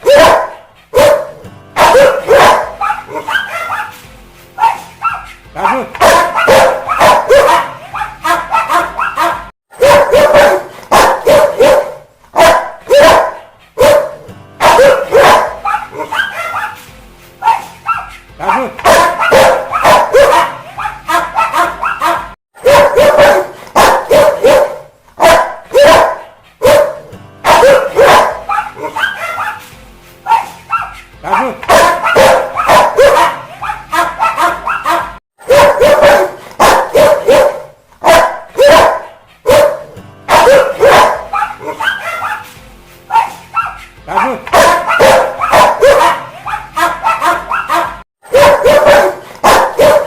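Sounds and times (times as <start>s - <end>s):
dog barking aggressively: 0.0s - 4.0s, 4.6s - 16.8s, 17.4s - 29.6s, 30.3s - 42.5s, 43.1s - 50.0s.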